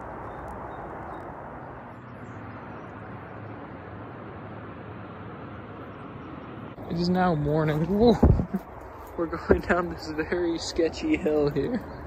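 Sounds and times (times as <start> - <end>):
distant freeway traffic rush: 0.0 - 12.0.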